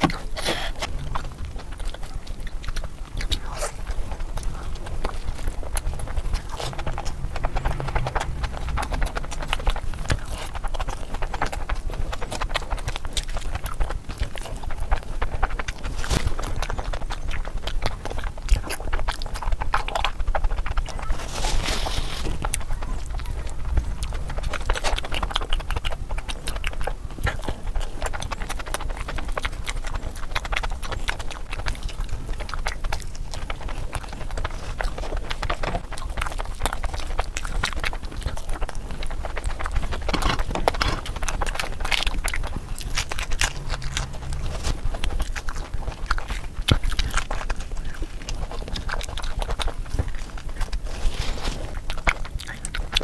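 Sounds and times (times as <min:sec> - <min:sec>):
wet chewing and mouth smacks: 0:00.0 - 0:53.0.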